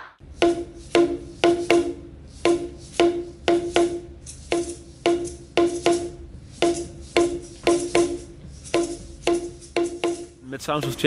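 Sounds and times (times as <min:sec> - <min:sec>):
ringing percussion strokes: 0:00.4 - 0:10.4.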